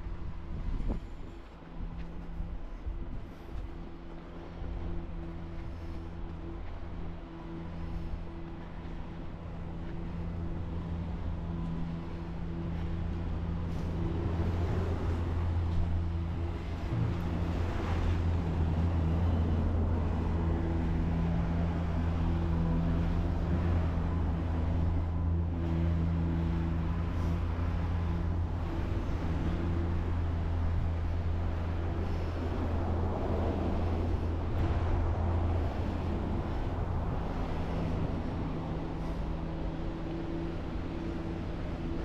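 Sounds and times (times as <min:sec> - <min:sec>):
street traffic noise: 0:00.0 - 0:42.0
vehicle engine humming: 0:00.0 - 0:42.0.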